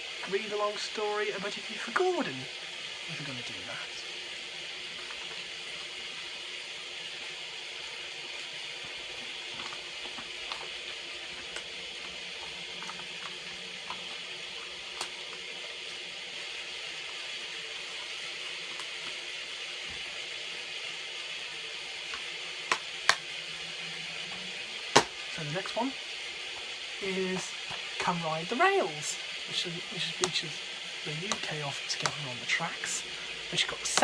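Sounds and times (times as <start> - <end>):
rain falling: 0.2 - 20.7, 26.6 - 34.0.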